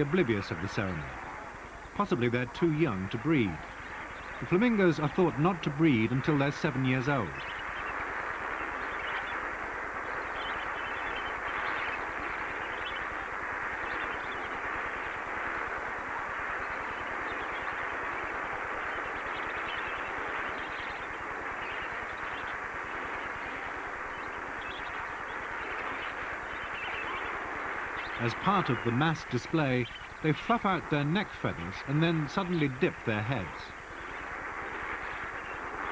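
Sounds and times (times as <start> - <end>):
flock of flamingos calling: 0.0 - 35.9.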